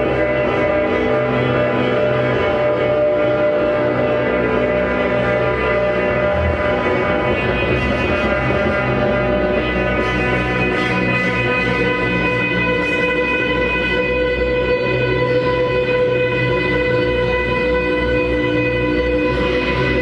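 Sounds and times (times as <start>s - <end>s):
continuous low drone: 0.0s - 20.0s.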